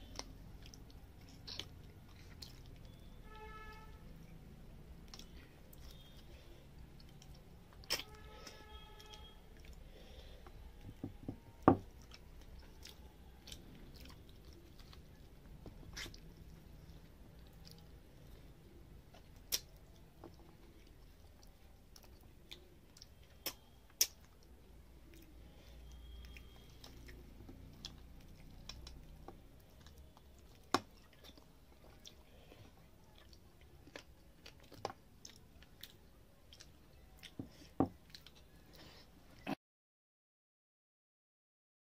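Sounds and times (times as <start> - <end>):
person chewing food: 0.0 - 39.6.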